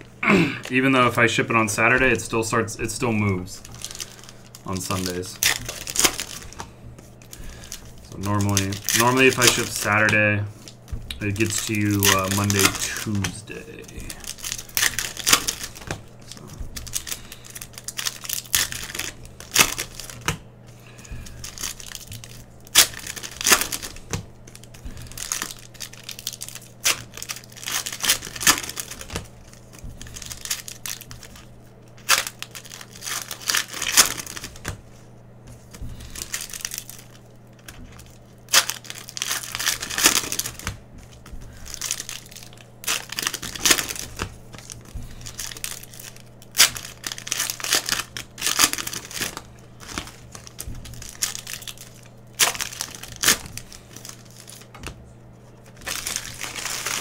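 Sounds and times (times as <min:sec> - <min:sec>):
foil wrappers crinkling and tearing: 0:00.3 - 0:57.0.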